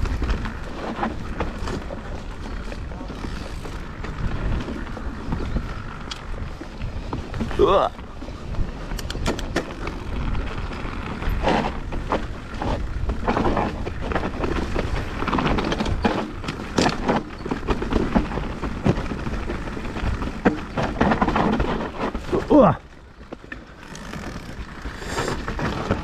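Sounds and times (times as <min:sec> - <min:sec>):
bike rattling over bumps: 0:00.0 - 0:26.0
bike tyres on dirt: 0:00.0 - 0:26.0.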